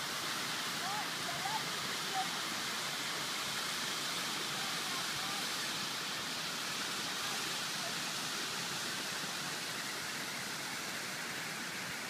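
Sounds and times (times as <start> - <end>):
geyser spray hissing: 0.0 - 12.0.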